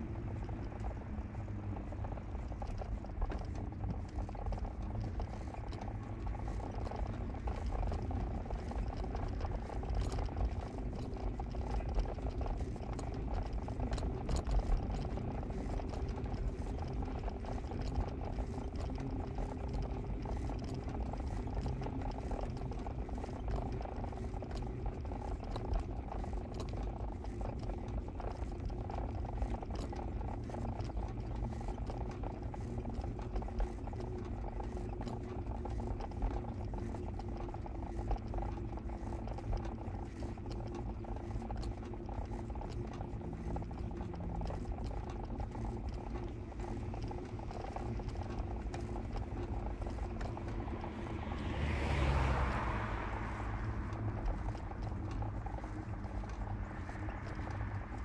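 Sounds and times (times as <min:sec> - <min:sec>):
car engine and road noise: 0:00.0 - 0:58.0
faint ticks: 0:00.0 - 0:58.0.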